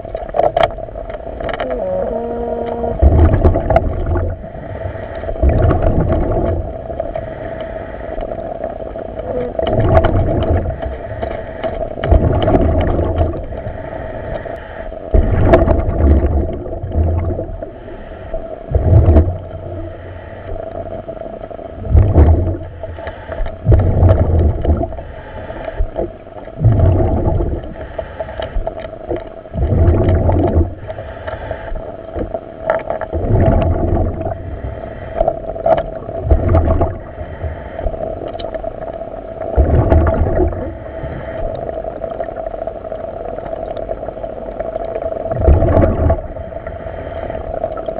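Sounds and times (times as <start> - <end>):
diver breathing and bubbles: 0.0 - 47.9.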